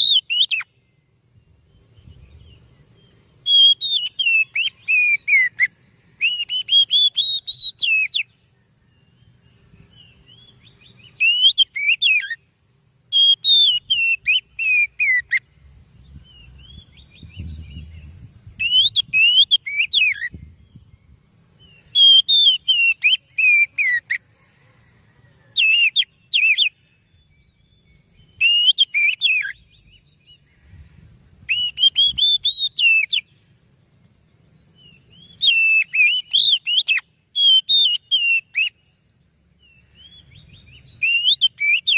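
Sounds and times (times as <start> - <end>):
bird singing whistled notes: 0.0 - 41.9.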